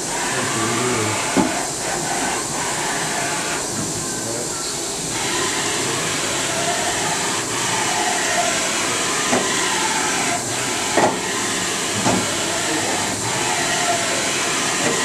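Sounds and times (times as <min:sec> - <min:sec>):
machinery hiss and whir: 0:00.0 - 0:15.0.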